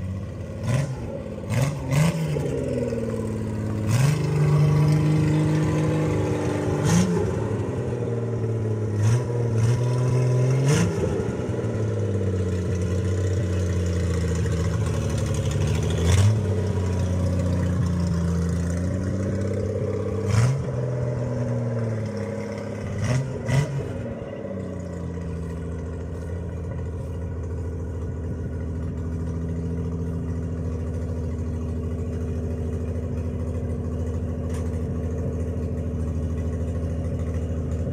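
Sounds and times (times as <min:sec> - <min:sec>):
car engine revving and idling: 0:00.0 - 0:37.9.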